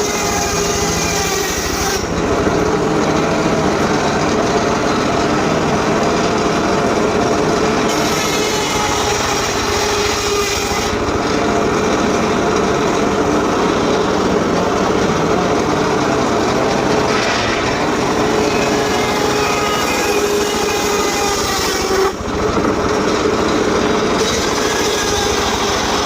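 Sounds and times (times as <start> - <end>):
power saw engine running: 0.0 - 26.0.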